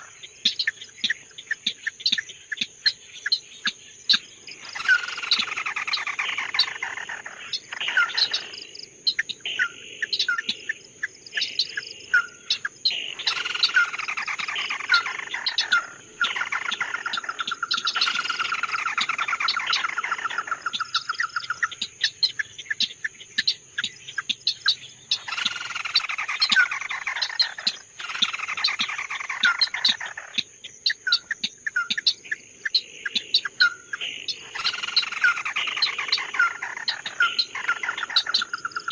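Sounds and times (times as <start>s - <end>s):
songbird trilling: 0.0s - 38.9s.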